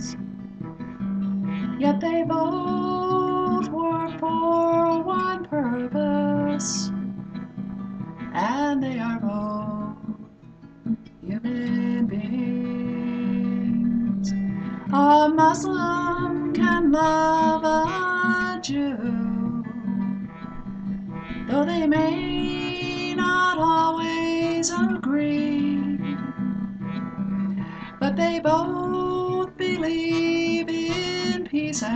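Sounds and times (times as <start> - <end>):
woman singing: 0.0 - 0.3, 1.6 - 7.0, 8.3 - 10.2, 11.2 - 20.5, 21.2 - 26.8, 27.4 - 31.9
acoustic guitar strumming: 0.0 - 31.9.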